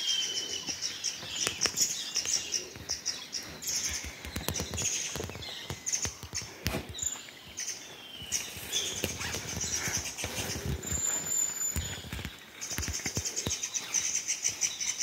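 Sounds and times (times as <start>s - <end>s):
forest birds chirping: 0.0s - 15.0s
footsteps on dirt trail: 1.2s - 14.1s.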